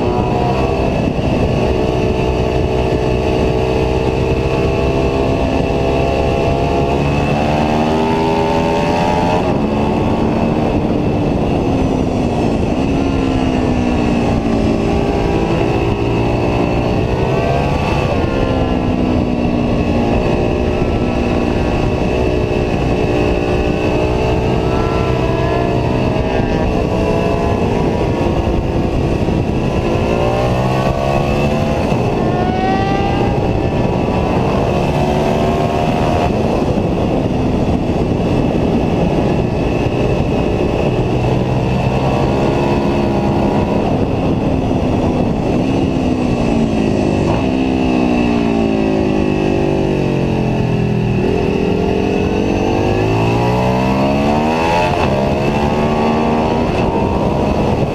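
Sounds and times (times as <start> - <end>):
motorcycle engine accelerating: 0.0 - 57.9
wind rush: 0.0 - 57.9.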